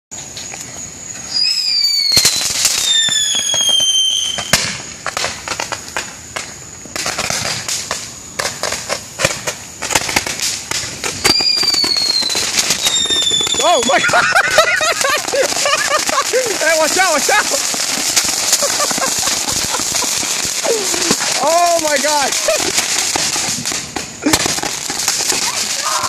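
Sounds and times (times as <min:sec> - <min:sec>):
firework crackles and pops: 0:00.1 - 0:26.0
firework hiss: 0:00.2 - 0:26.0
whistling firework shots: 0:00.4 - 0:26.0.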